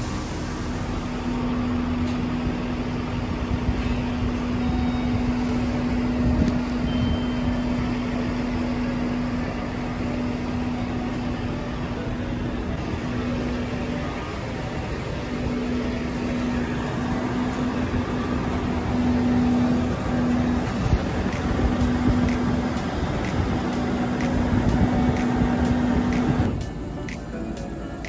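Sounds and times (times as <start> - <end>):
mechanical hum and rumble: 0.0 - 28.0.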